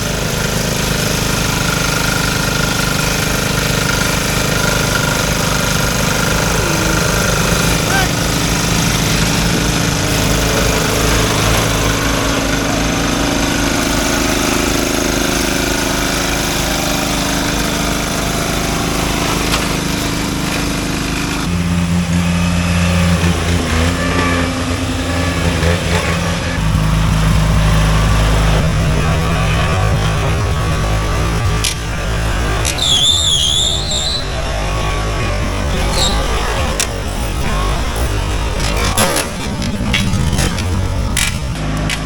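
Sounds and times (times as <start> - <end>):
riding lawn mower engines: 0.0 - 42.0.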